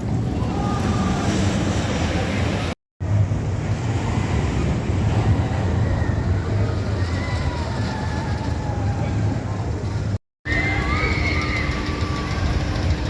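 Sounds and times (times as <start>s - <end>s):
roller coaster train rumbling: 0.0s - 13.0s.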